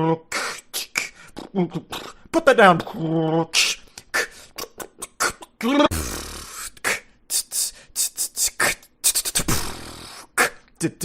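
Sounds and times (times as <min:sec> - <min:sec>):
man beatboxing: 0:00.0 - 0:11.0.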